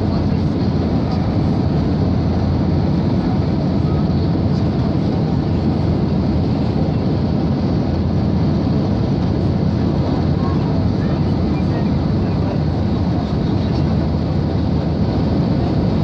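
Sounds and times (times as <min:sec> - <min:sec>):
jet engine roar: 0:00.0 - 0:16.0
rushing airflow: 0:00.0 - 0:16.0.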